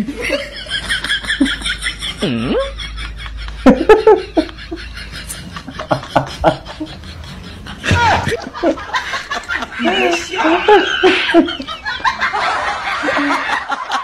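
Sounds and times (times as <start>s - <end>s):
man laughing: 0.0s - 14.0s.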